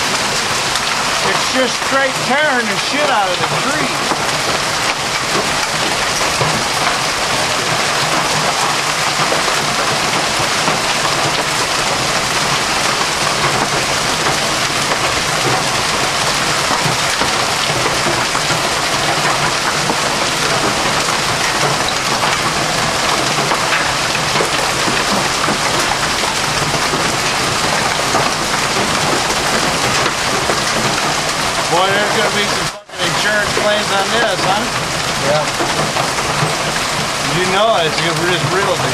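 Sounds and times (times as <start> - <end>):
hail pelting ground and vehicles: 0.0 - 38.9.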